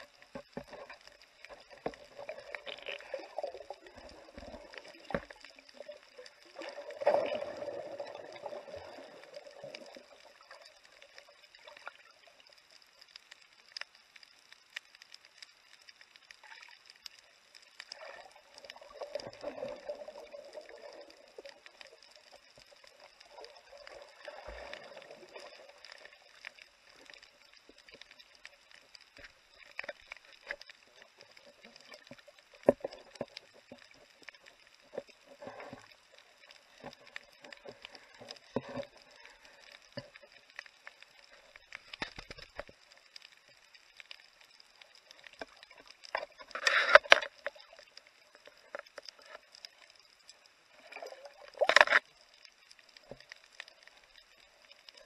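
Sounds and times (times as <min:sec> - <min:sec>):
water rushing and gurgling: 0:00.0 - 0:13.8, 0:15.8 - 0:55.0
faint clicks and crackles: 0:00.0 - 0:55.0.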